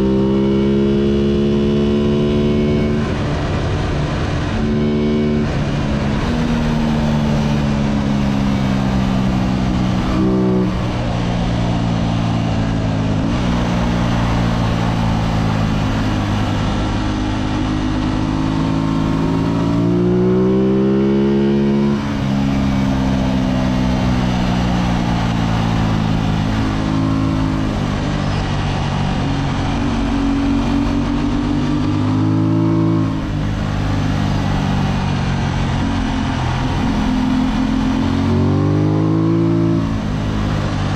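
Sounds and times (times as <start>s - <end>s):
racing motorcycle engine revving: 0.0s - 40.9s
wind and road noise: 0.0s - 40.9s.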